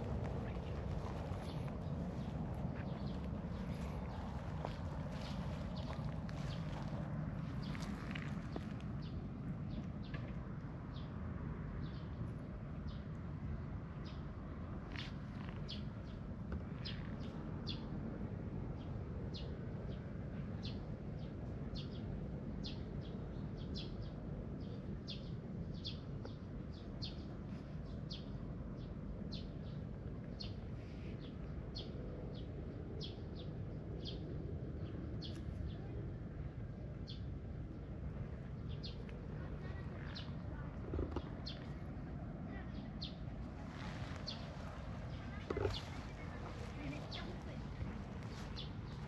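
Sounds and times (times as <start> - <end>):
small birds chirping: 0.0 - 11.2, 12.8 - 17.9, 18.8 - 49.0
steady low background noise: 0.0 - 49.0.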